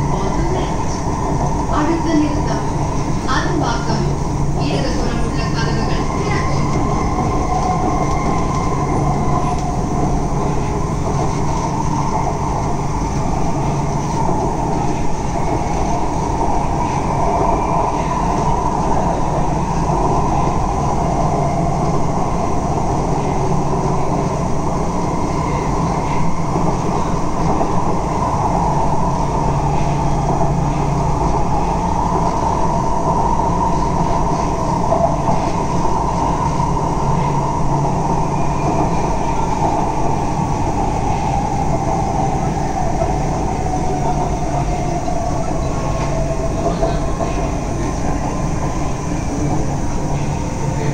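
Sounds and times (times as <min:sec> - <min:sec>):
train rolling inside carriage: 0:00.0 - 0:50.9.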